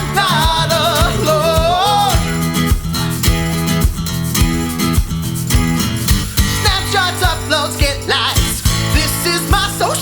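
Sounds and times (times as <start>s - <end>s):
steady drum beat: 0.0s - 10.0s
strummed guitar chords: 0.0s - 10.0s.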